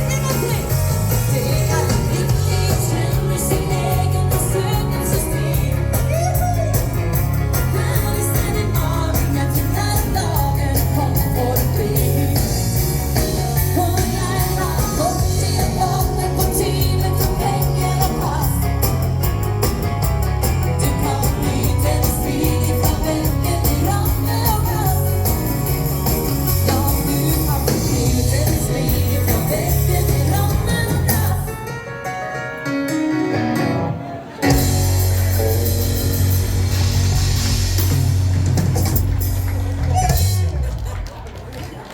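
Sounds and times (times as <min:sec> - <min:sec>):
live dance band playing rock and roll: 0:00.0 - 0:41.5.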